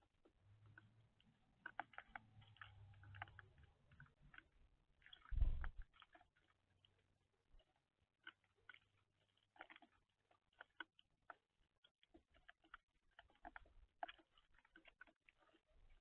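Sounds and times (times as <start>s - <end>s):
birds pecking at seed: 0.0s - 16.0s.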